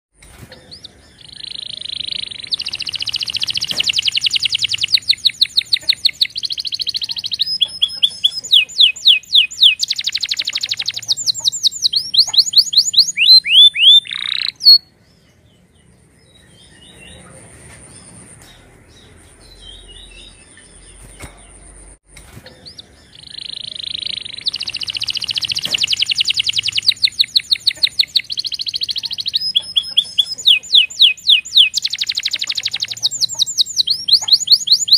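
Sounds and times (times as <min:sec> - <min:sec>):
soft bird chirps: 0:00.2 - 0:34.9
canary singing trills: 0:00.3 - 0:34.9.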